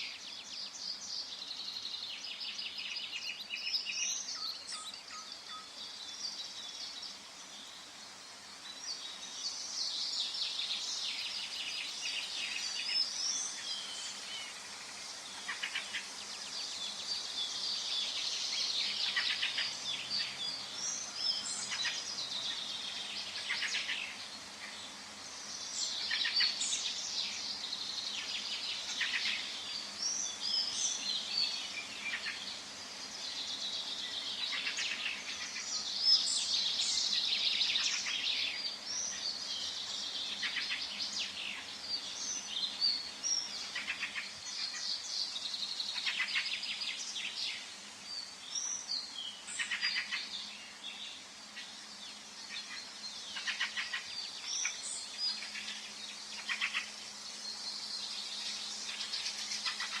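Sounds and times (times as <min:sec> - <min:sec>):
forest birds chirping and trilling: 0:00.0 - 1:00.0.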